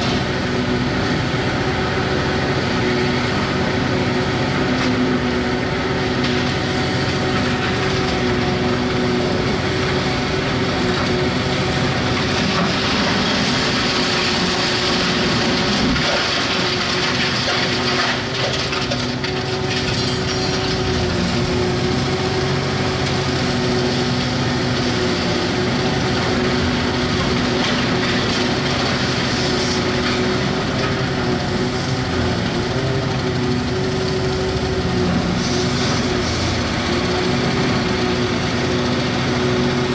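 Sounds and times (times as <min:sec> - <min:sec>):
excavator engine drone: 0:00.0 - 0:39.9.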